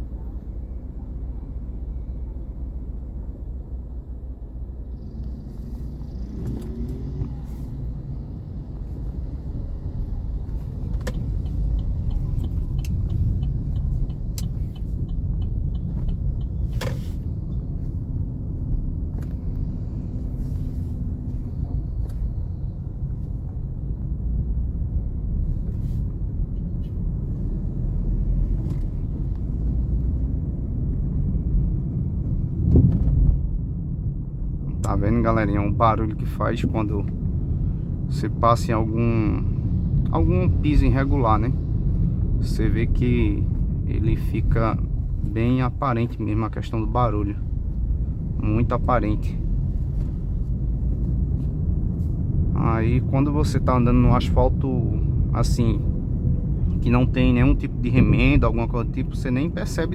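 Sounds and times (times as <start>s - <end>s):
car cabin rumble: 0.0s - 59.9s.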